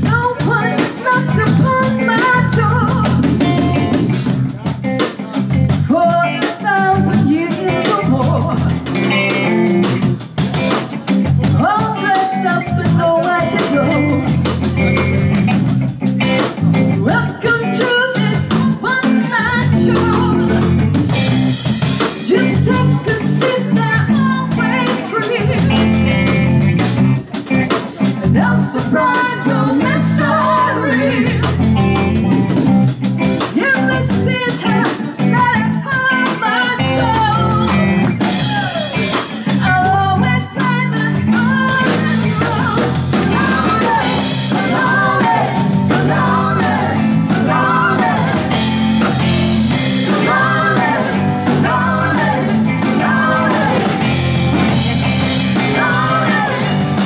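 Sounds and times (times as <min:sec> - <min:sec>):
woman singing lead: 0:00.0 - 0:04.3, 0:05.4 - 0:15.3, 0:16.4 - 0:26.7, 0:27.4 - 0:32.7, 0:33.3 - 0:57.0
drum kit: 0:00.0 - 0:57.0
electric bass: 0:00.0 - 0:57.0
electric guitar: 0:00.0 - 0:57.0.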